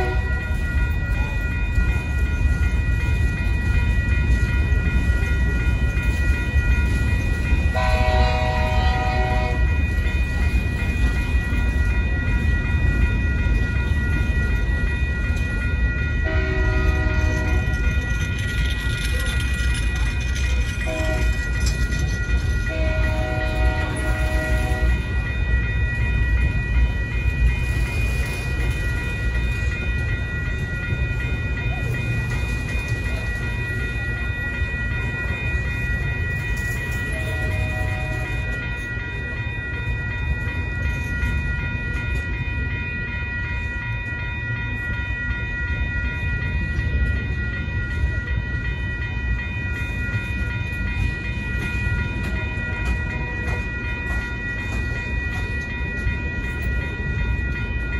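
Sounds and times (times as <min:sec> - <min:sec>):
crossing warning bell ringing: 0:00.0 - 0:57.9
train wheels rumbling on rail: 0:00.0 - 0:57.9.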